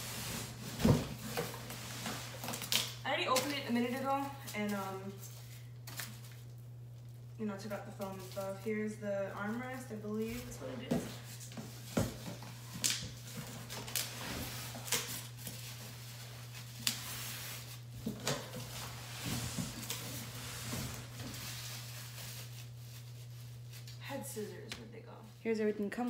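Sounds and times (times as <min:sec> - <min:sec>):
cardboard and plastic wrap rustling: 0:00.0 - 0:24.6
steady low hum: 0:00.0 - 0:26.0.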